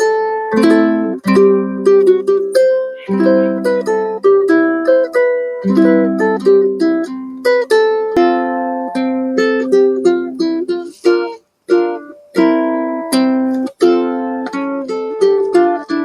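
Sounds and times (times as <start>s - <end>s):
plucked string instrumental: 0.0s - 16.0s.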